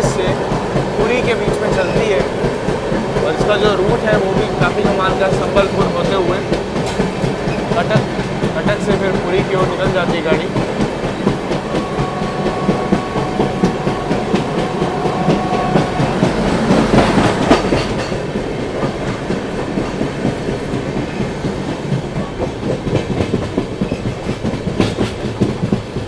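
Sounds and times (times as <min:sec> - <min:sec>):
train wheels clattering: 0:00.0 - 0:26.0.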